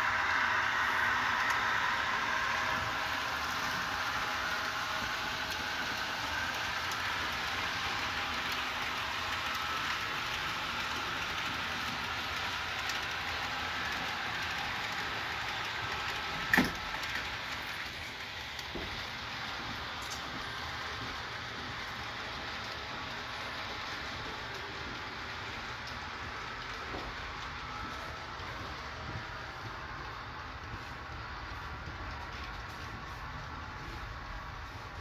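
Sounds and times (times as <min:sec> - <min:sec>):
model train wheels on rail: 0:00.0 - 0:35.0.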